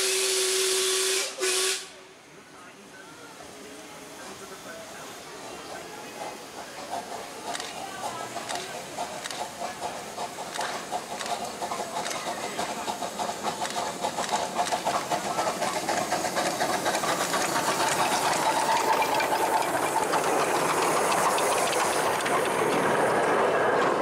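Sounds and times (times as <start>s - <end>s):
steam locomotive exhaust beats: 0.0s - 2.4s, 3.4s - 24.0s
steam hiss: 0.0s - 24.0s
train carriages rolling: 3.0s - 24.0s.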